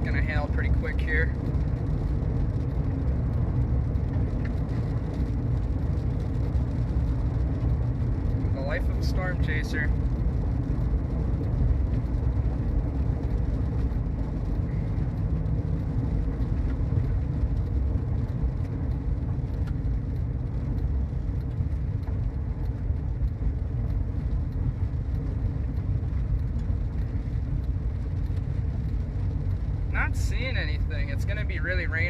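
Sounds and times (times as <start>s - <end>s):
car road and engine rumble: 0.0s - 32.0s
rain ticking on car: 0.0s - 32.0s.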